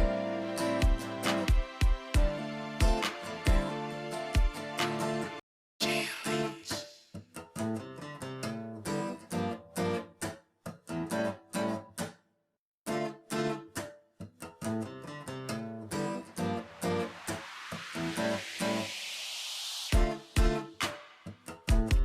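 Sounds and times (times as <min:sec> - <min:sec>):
acoustic guitar plucked and strummed: 0:00.0 - 0:12.2, 0:12.9 - 0:17.1, 0:20.0 - 0:22.0.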